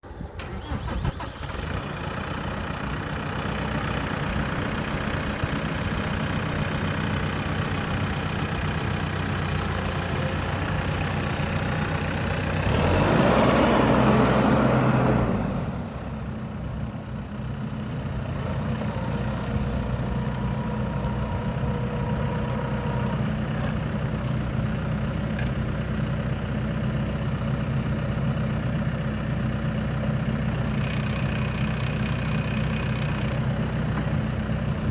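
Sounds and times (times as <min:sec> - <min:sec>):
tractor diesel engine revving: 0:00.1 - 0:34.9.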